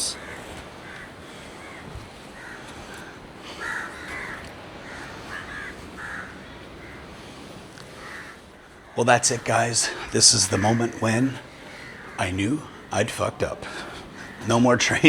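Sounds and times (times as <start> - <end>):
bird calling: 0.0 - 15.0
steady background noise: 0.0 - 15.0.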